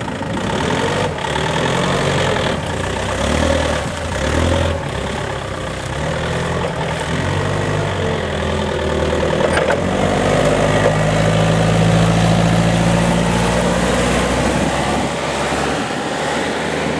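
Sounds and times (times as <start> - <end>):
forklift diesel engine revving: 0.0 - 16.9.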